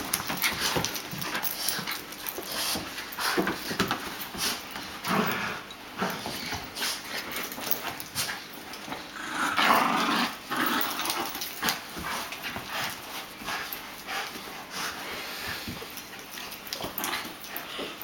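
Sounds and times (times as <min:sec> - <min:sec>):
dogs scuffling: 0:00.0 - 0:18.0
dogs growling: 0:00.1 - 0:18.0.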